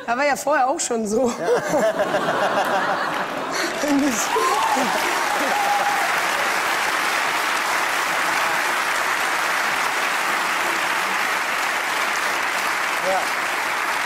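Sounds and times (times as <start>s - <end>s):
audience applauding: 2.1s - 14.0s.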